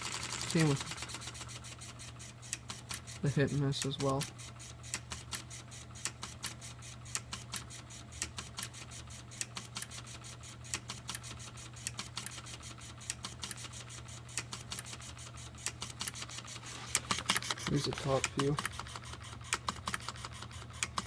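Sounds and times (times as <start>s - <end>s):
solenoid engine clicking: 0.0s - 3.2s, 3.8s - 21.0s
steady low hum: 0.0s - 21.0s.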